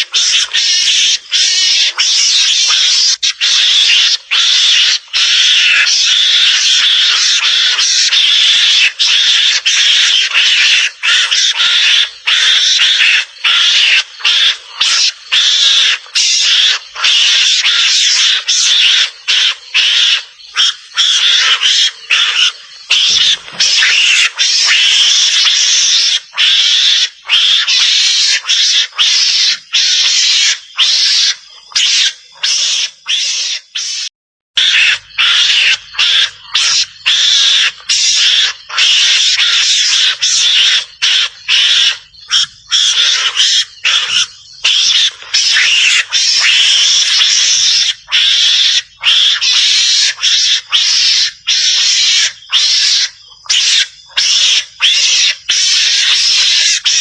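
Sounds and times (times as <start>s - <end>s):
mongoose chattering calls: 0.0s - 57.0s.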